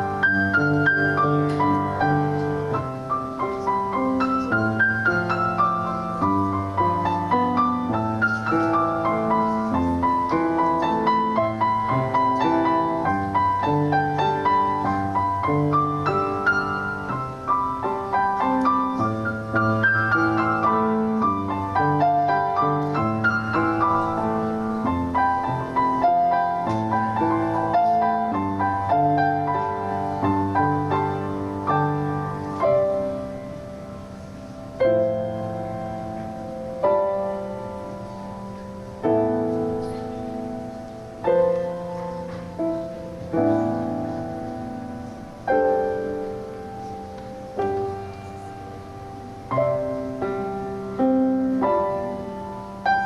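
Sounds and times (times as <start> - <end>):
piano piece: 0.0 - 53.0.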